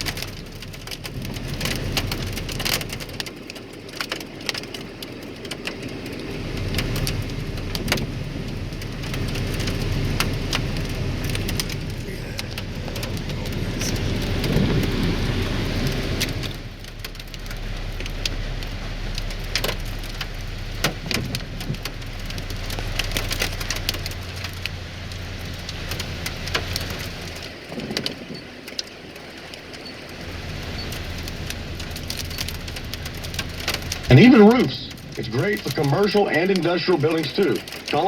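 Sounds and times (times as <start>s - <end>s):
low hum: 0.0s - 28.3s, 30.1s - 37.9s
rain and hail on vehicle: 0.0s - 38.0s.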